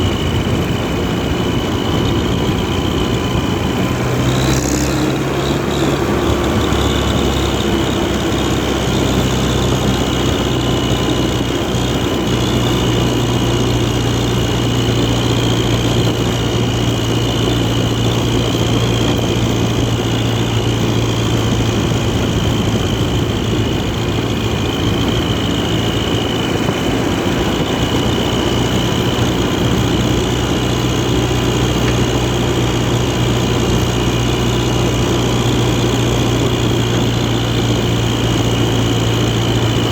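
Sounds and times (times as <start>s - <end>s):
high whine: 0.0s - 39.9s
tractor engine running: 0.0s - 39.9s.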